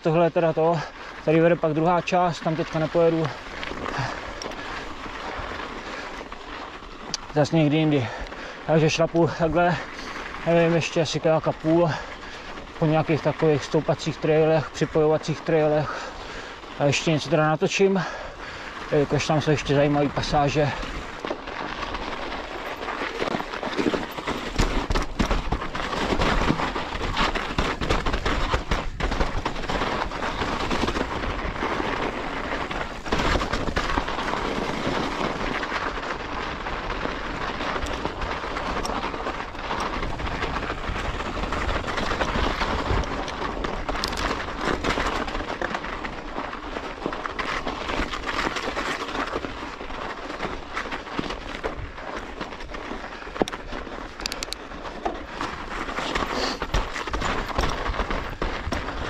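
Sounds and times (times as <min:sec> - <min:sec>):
bike rattling: 0:00.0 - 0:59.0
tyres crunching through snow: 0:00.0 - 0:59.0.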